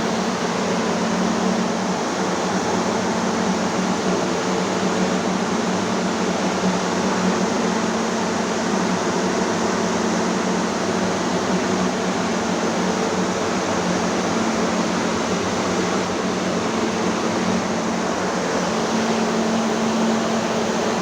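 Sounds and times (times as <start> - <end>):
drying machine fan rushing air: 0.0 - 21.0.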